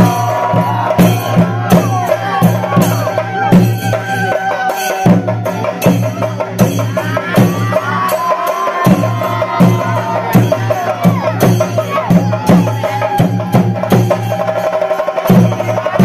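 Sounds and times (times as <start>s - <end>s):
drums beaten with sticks: 0.0s - 16.0s.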